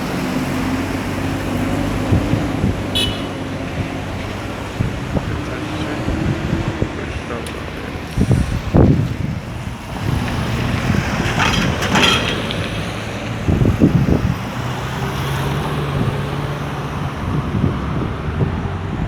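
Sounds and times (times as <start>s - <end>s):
engine rumbling surges: 0.0s - 19.0s
traffic engine hum: 0.0s - 19.0s.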